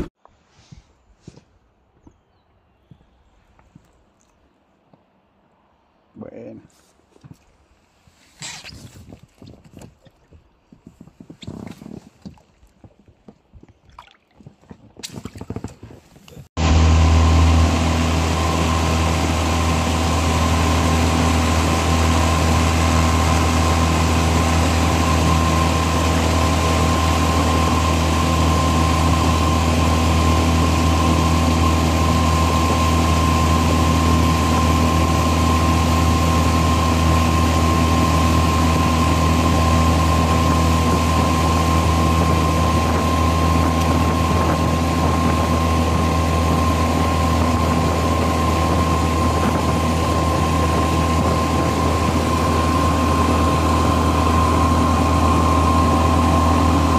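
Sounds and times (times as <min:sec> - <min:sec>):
outboard motor running: 0:08.4 - 0:56.9.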